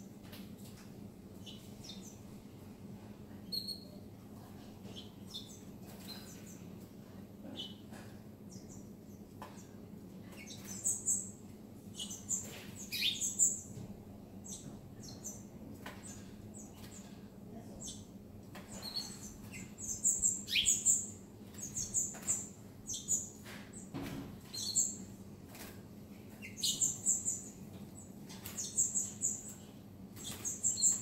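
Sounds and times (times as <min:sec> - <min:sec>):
caged birds chirping: 0:00.6 - 0:02.8, 0:03.4 - 0:31.0.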